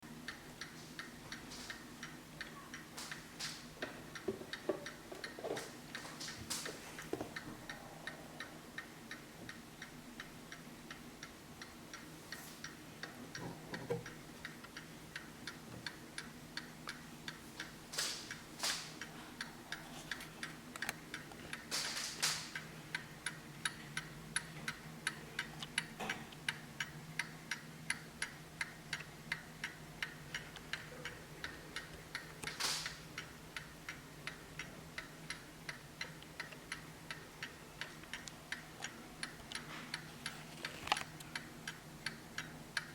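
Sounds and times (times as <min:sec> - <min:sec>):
clock ticking: 0:00.0 - 0:42.9.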